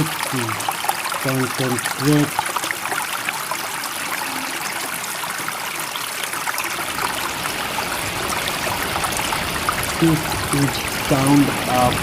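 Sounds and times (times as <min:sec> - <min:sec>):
running water trickling and splashing: 0:00.0 - 0:12.0.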